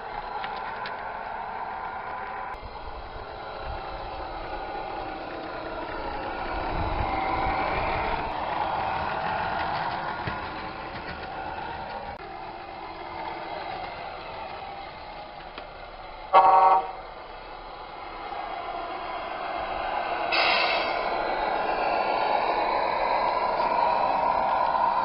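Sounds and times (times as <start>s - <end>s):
toy truck engine running: 0.0s - 25.0s.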